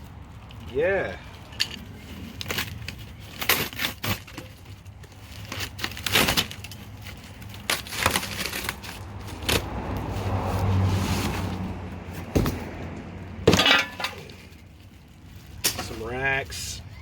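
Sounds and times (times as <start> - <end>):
cardboard packing crinkling: 0.0 - 11.7, 13.6 - 16.6
knocks and scrapes of parts: 1.3 - 14.7, 15.4 - 16.1.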